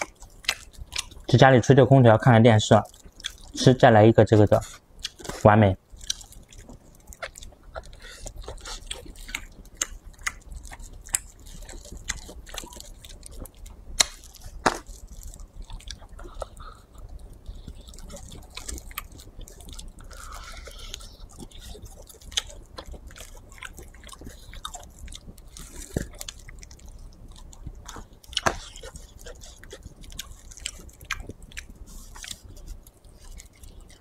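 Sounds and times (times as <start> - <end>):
chewing meat strips: 0.0 - 1.5, 2.2 - 34.0.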